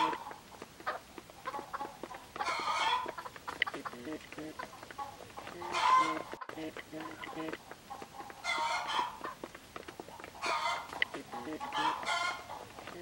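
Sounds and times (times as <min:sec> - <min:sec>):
beaks pecking grain on concrete: 0:00.0 - 0:13.0
chickens clucking: 0:00.0 - 0:13.0.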